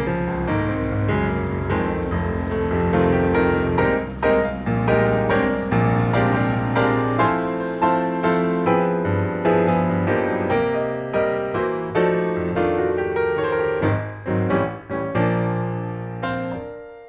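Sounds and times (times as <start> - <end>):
piano notes: 0.0 - 17.0.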